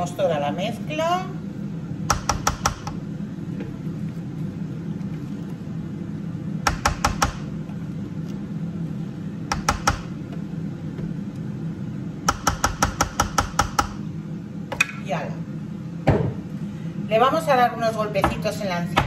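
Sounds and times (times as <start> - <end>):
air fryer fan humming: 0.0 - 19.0.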